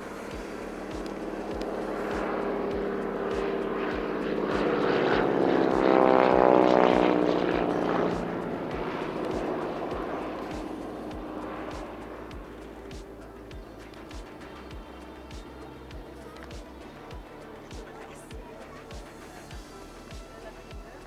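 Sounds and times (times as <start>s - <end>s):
radial engine and propeller flyby: 0.0s - 21.0s.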